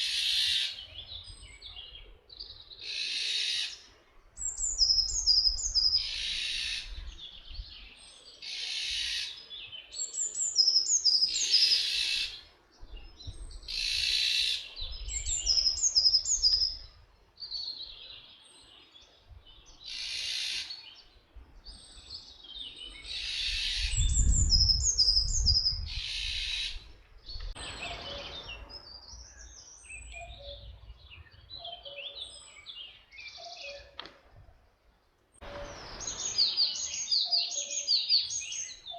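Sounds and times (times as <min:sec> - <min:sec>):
small birds chirping: 0:00.0 - 0:34.1, 0:34.8 - 0:38.9.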